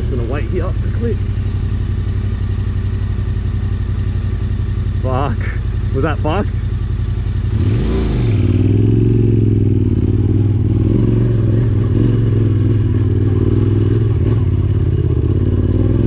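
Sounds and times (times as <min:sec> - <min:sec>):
motorcycle engine climbing: 0:00.0 - 0:16.0.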